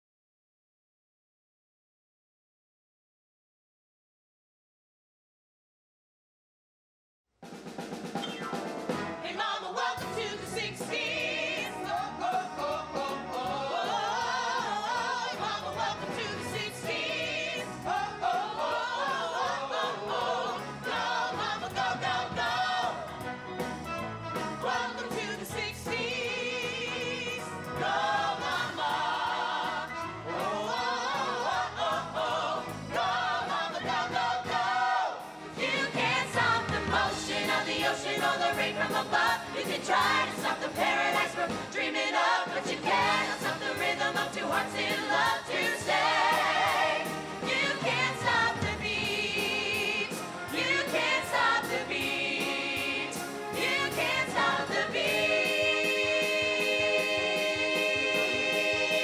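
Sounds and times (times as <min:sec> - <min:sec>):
ensemble singing show tune with band: 0:07.7 - 0:59.0
full chorus singing: 0:09.1 - 0:23.3, 0:24.4 - 0:59.0
solo voices singing: 0:09.2 - 0:23.2, 0:24.5 - 0:59.0.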